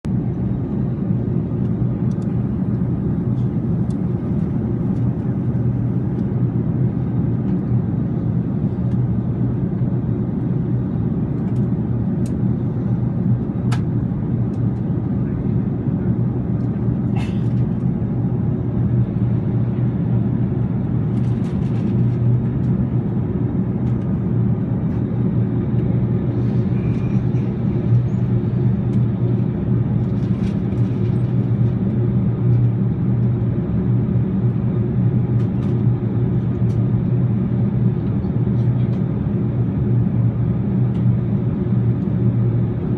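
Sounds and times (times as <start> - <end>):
airplane cabin drone: 0.0 - 42.9.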